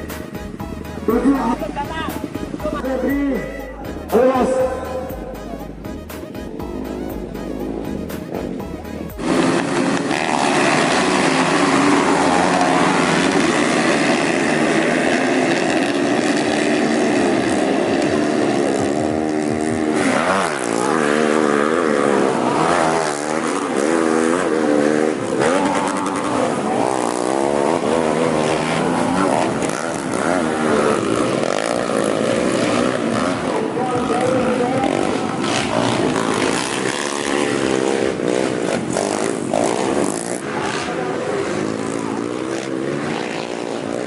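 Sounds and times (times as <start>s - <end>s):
motocross engines revving: 0.0s - 44.0s.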